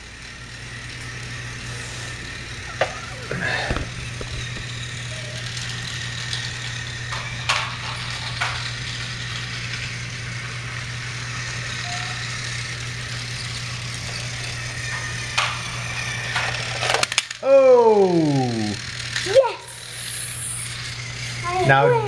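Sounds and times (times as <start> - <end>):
toy train motors humming: 0.0 - 22.0.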